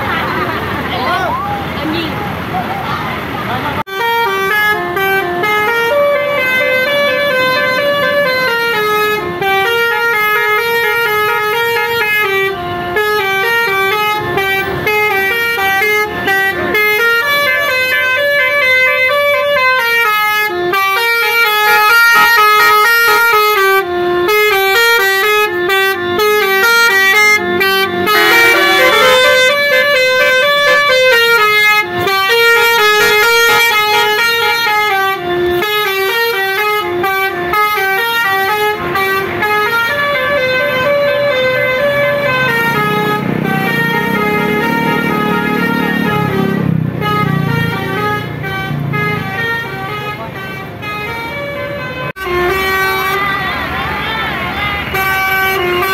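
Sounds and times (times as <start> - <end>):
multi-tone air horn melody: 3.8 - 55.9.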